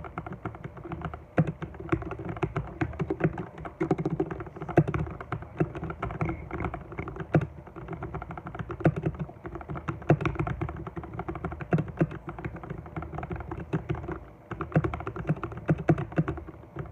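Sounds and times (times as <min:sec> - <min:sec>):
muffled mechanical keyboard typing: 0:00.0 - 0:16.9.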